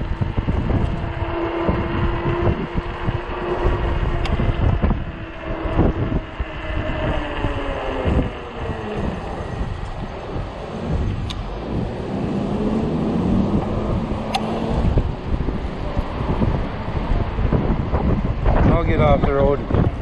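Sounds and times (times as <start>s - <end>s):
steady whine: 0.0s - 20.0s
wind buffeting microphone: 0.0s - 20.0s.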